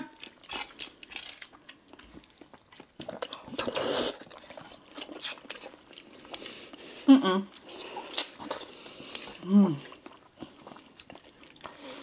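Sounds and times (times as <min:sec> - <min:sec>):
wet chewing mouth sounds: 0:00.0 - 0:12.0.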